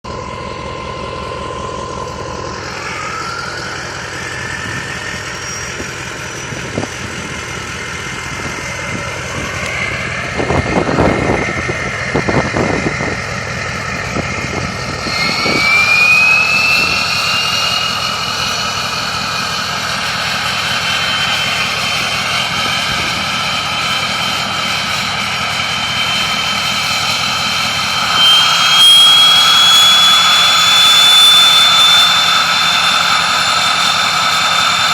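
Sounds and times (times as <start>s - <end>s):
diesel engine running: 0.0s - 34.9s
turbocharger whistling: 0.1s - 34.9s.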